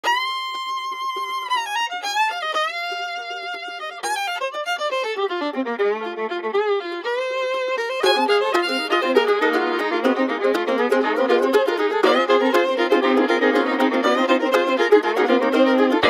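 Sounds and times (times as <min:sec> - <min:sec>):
fiddle playing a quick tune: 0:00.0 - 0:16.0.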